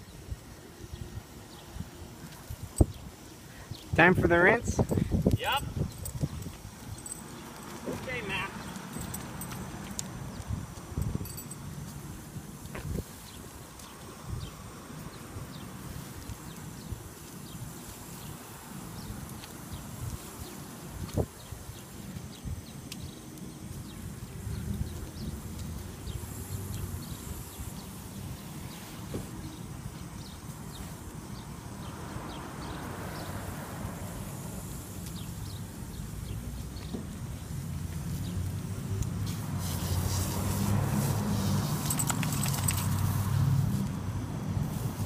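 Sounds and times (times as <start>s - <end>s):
hose spraying water: 5.2s - 45.0s.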